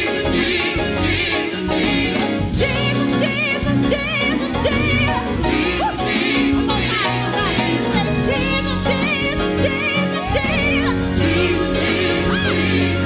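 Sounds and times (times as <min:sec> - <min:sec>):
gospel choir singing with band: 0:00.0 - 0:13.0.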